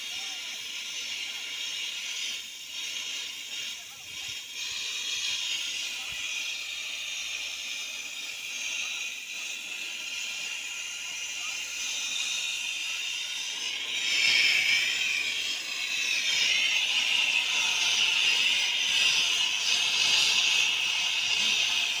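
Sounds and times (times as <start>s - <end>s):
loud steady hissing: 0.0s - 22.0s.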